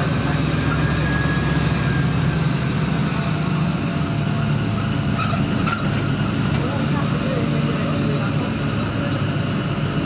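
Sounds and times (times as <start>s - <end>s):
bus diesel engine drone: 0.0s - 10.0s.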